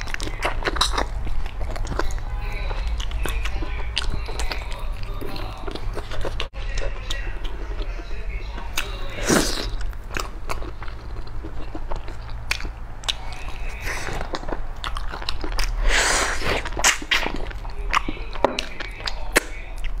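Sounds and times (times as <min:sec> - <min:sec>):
close chewing with mouth clicks: 0:00.0 - 0:20.0.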